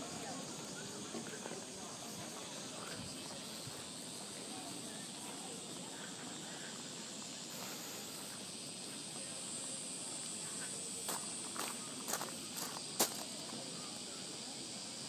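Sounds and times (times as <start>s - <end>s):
cicadas droning: 0.0s - 15.0s.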